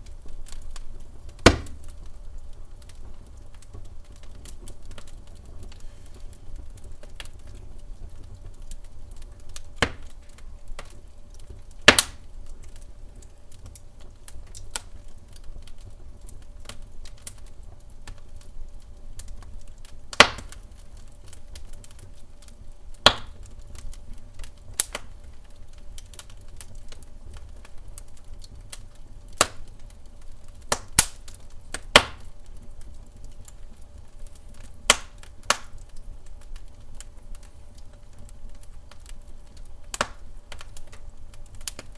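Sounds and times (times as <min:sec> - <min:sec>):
fire snapping and popping: 0:00.0 - 0:41.9
low fire rumble: 0:00.0 - 0:41.9.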